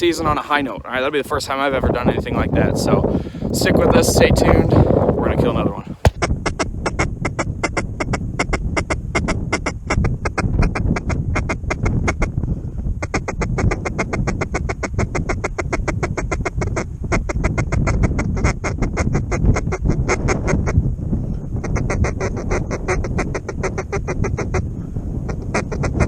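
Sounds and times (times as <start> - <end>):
low wind rumble: 0.0 - 13.5, 14.4 - 26.0.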